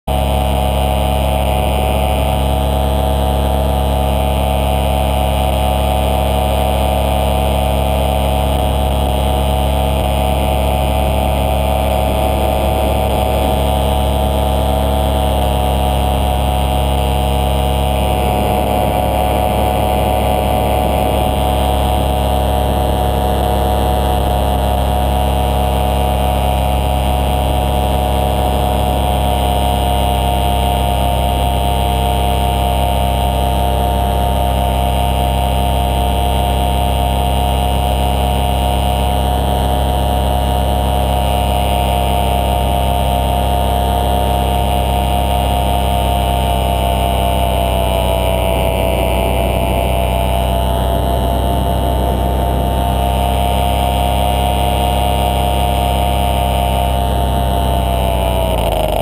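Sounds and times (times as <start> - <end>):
small aircraft engine droning: 0.1 - 59.0.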